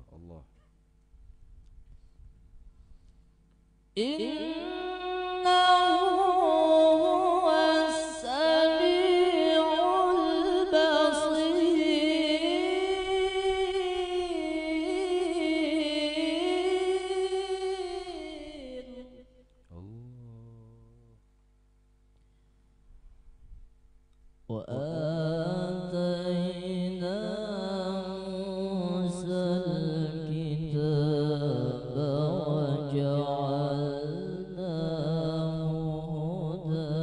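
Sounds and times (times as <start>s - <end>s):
man reciting melodically: 4.0s - 21.2s, 24.5s - 37.0s.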